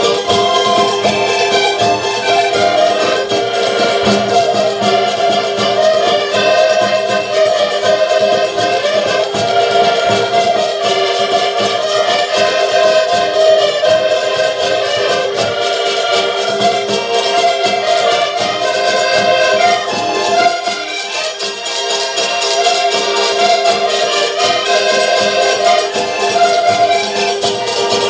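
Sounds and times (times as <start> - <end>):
accordion chords: 0.0 - 28.0
small stringed instrument: 0.0 - 28.0
steady drum beat: 0.0 - 28.0.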